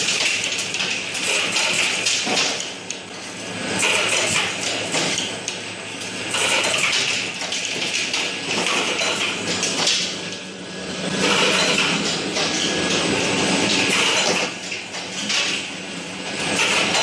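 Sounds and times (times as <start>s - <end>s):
packing machine clatter and rattle: 0.0s - 17.0s.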